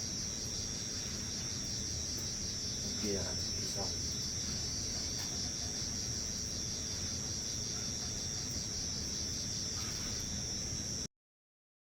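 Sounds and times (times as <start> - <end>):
night insects trilling: 0.0 - 11.1.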